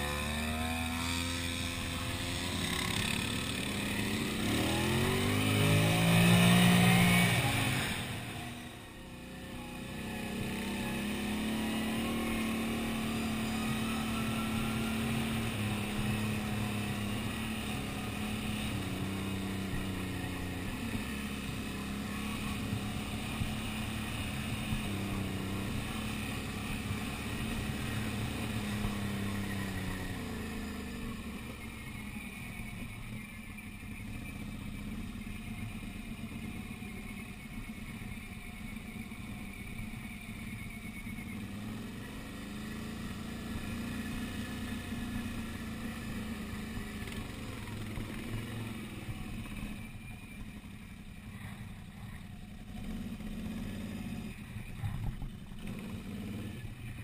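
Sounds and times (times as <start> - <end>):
quad bike engine revving: 0.0 - 32.5, 34.0 - 57.0.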